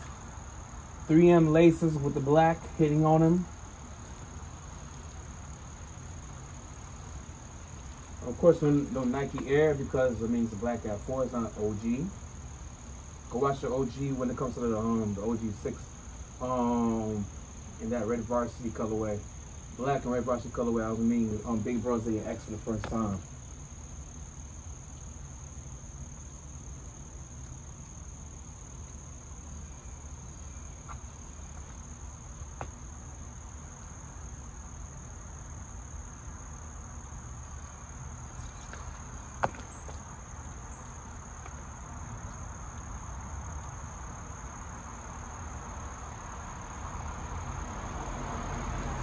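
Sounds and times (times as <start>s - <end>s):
insects shrilling: 0.0s - 49.0s.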